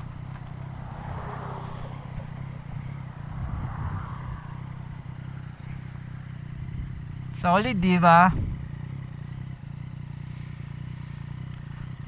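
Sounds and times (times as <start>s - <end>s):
motorcycle engine running at low revs: 0.0s - 12.0s.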